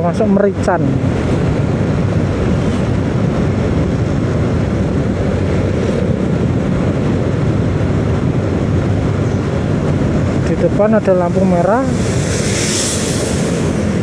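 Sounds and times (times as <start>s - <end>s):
tyre and wind noise: 0.0s - 14.0s
vehicle engine hum: 0.0s - 14.0s.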